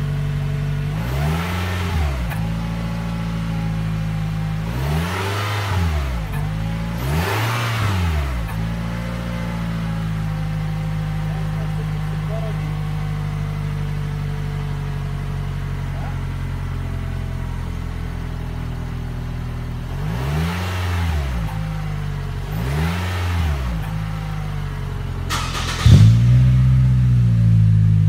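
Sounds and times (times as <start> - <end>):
car engine idling and revving: 0.0 - 28.0
loud car engine idling: 0.0 - 28.0.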